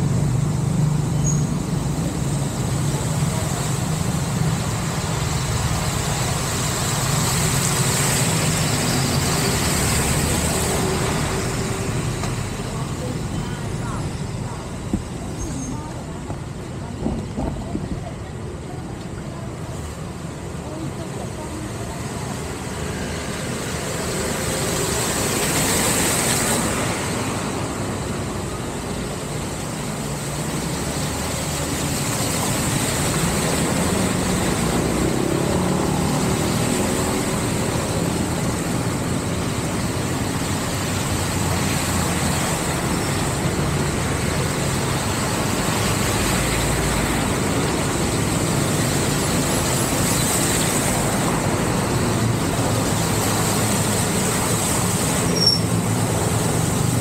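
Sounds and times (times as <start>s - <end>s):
tyres splashing through water: 0.0s - 57.0s
vehicle engine noise: 0.0s - 57.0s.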